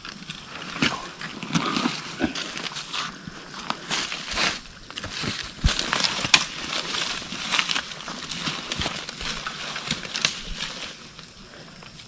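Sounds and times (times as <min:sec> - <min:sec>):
footsteps crunching dry leaves: 0:00.0 - 0:11.4
twigs snapping underfoot: 0:00.0 - 0:12.0.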